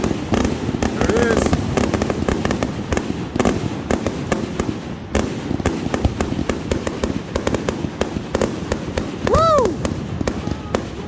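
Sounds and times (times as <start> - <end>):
fireworks popping and cracking: 0.0 - 11.0.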